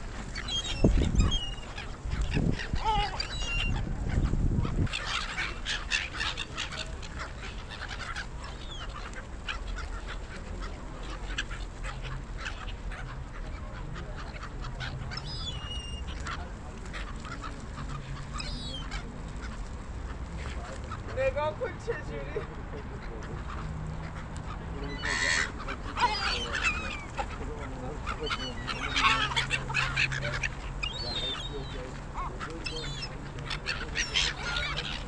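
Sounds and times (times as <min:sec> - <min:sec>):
gulls calling: 0:00.0 - 0:35.0.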